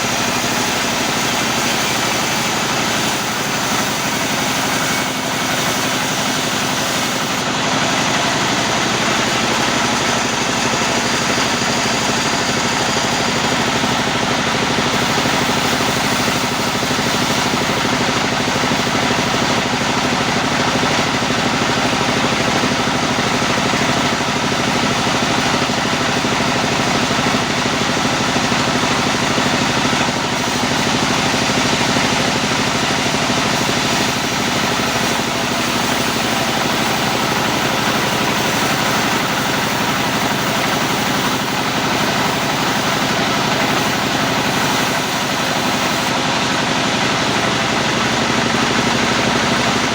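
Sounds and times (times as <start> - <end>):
sawmill motor drone: 0.0 - 49.9.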